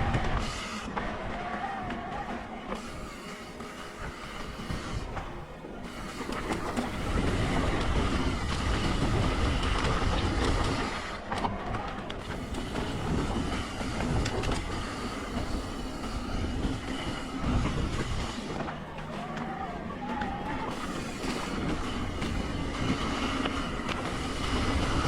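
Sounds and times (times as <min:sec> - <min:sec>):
bike tyres rumbling over dirt: 0:04.7 - 0:25.0.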